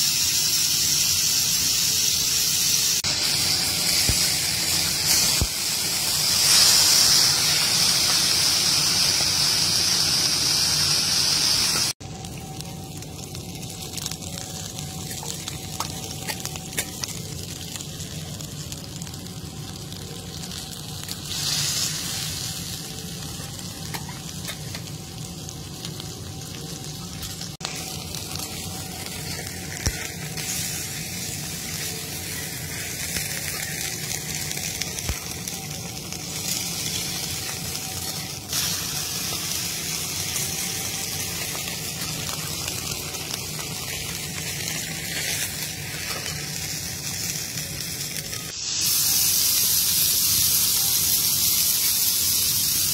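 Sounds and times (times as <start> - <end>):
steaks sizzling on a griddle: 0.0 - 52.9.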